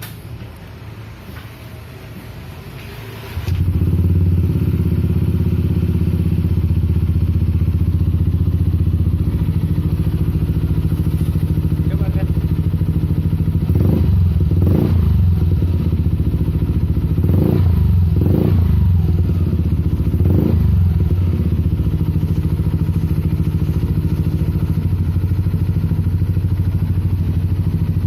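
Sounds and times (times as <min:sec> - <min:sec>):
scooter engine idling: 0:02.0 - 0:28.0.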